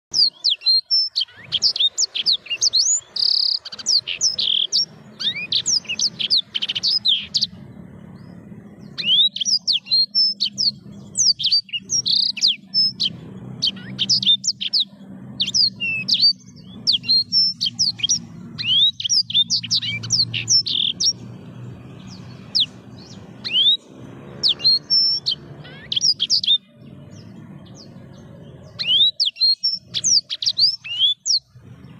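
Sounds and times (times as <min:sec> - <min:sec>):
canary singing chirps and trills: 0:00.1 - 0:31.9.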